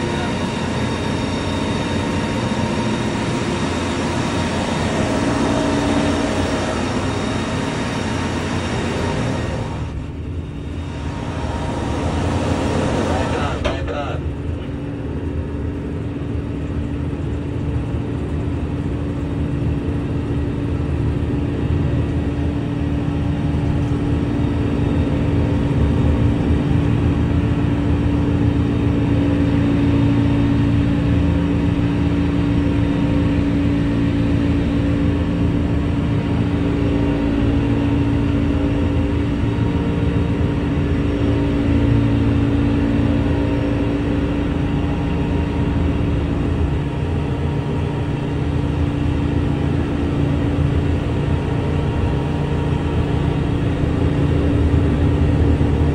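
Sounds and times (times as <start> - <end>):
crane machinery droning: 0.0 - 55.9.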